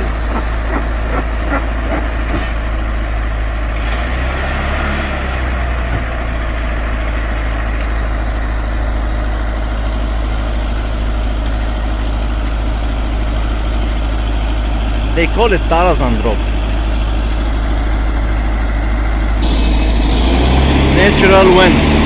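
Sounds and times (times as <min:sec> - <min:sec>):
bulldozer diesel engine under load: 0:00.0 - 0:22.0.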